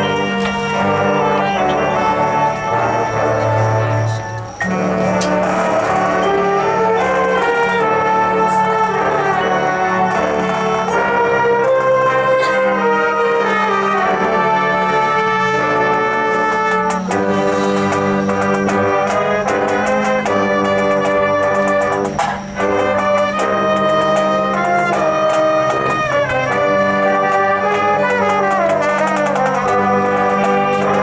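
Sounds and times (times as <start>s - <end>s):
brass section playing chords: 0.0s - 31.0s
percussion strikes: 0.0s - 31.0s.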